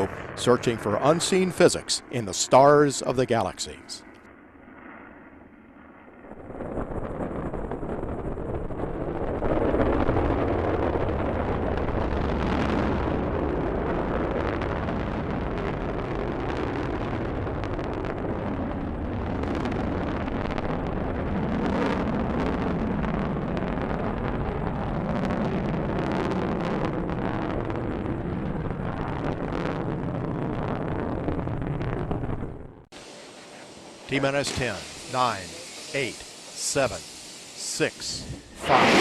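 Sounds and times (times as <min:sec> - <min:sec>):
rocket engines roaring: 0:00.0 - 0:39.0.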